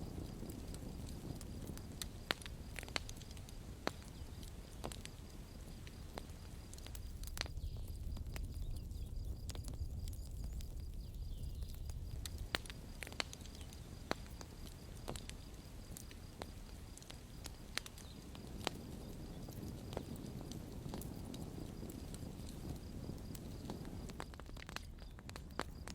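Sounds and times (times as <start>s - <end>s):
low rumble of flames: 0.0s - 25.9s
wood crackling and popping: 0.0s - 25.9s.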